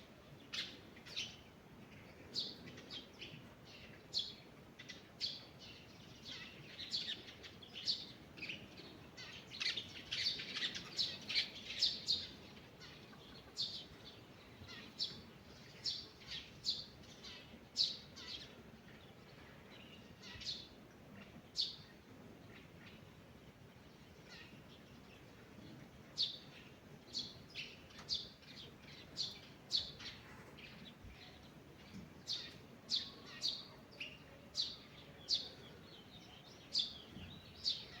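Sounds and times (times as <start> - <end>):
faint low background hiss: 0.0 - 38.0
songbirds singing and chirping: 0.0 - 38.0.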